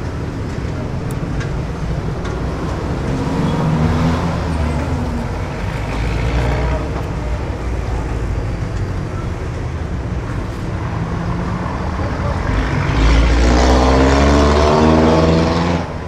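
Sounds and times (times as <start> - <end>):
passing engine: 0.0 - 16.0
traffic rumble: 0.0 - 16.0.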